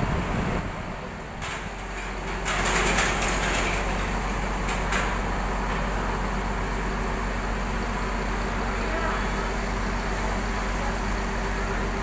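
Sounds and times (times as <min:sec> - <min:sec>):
buses idling: 0:00.0 - 0:12.0.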